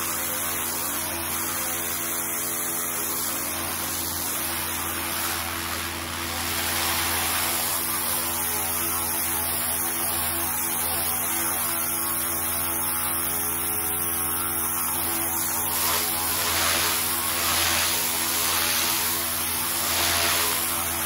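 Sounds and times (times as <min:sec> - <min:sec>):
pressure washer motor hum: 0:00.0 - 0:21.0.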